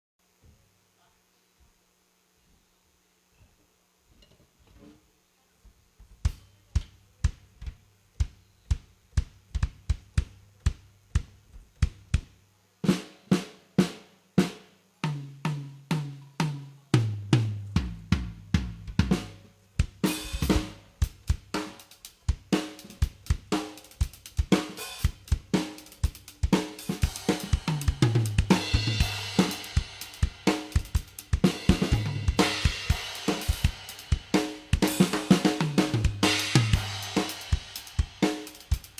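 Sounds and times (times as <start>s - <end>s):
drum kit groove with cymbals: 6.2s - 38.9s.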